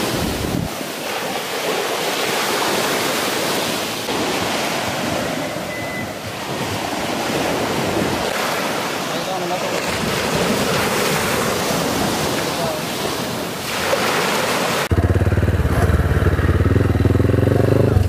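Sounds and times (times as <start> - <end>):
small waves rushing on sand: 0.0 - 14.9.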